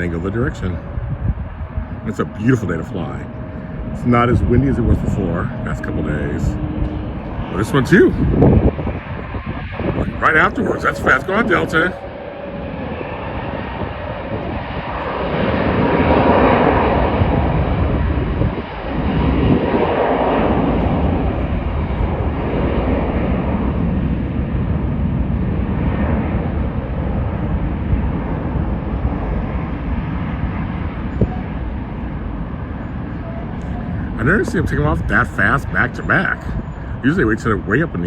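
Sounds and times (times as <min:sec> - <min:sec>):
jet engines roaring at takeoff: 0:00.0 - 0:38.0.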